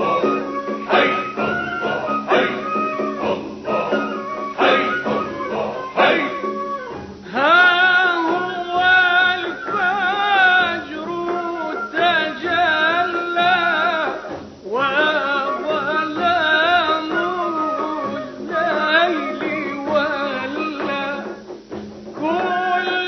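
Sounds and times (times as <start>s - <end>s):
man singing a hymn: 0.0s - 6.6s, 7.2s - 21.5s, 22.2s - 23.0s
instrumental accompaniment: 0.0s - 23.0s.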